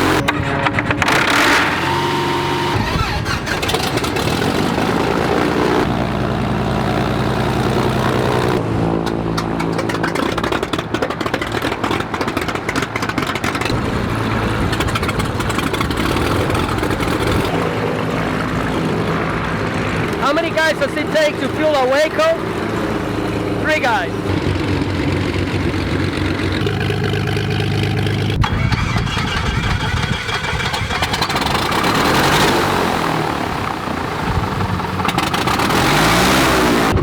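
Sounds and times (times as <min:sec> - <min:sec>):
propeller airplane engines running: 0:00.0 - 0:37.0.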